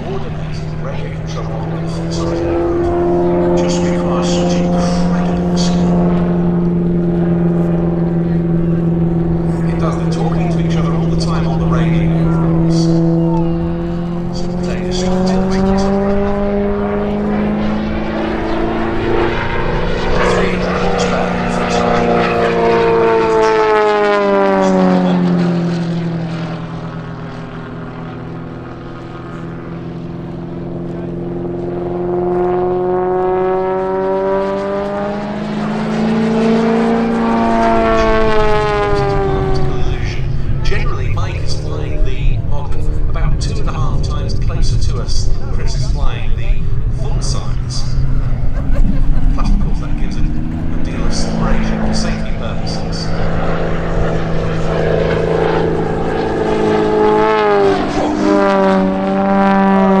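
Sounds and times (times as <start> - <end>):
model aircraft engine drone: 0.0 - 60.0
propeller aircraft engine drone: 0.0 - 60.0.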